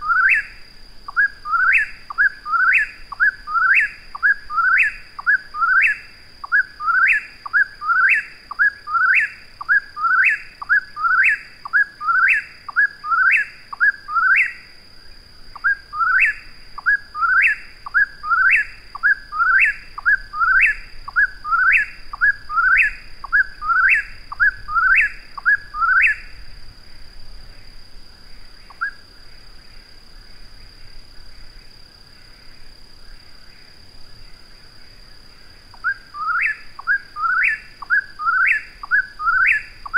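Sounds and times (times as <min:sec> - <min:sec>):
faint bird calls: 0:00.0 - 0:14.7, 0:15.5 - 0:29.8, 0:30.4 - 0:39.9.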